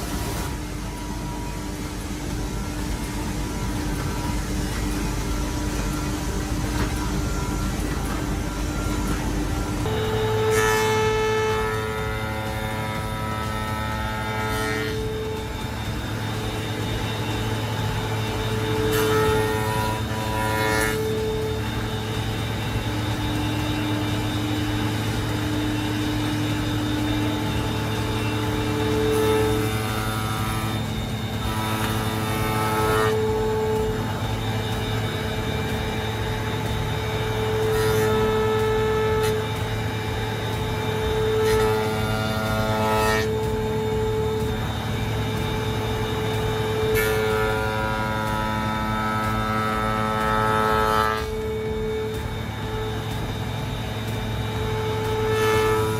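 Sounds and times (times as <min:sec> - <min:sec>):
electric motor hum: 0:00.0 - 0:55.9
machine whine cutting wood: 0:00.0 - 0:55.9.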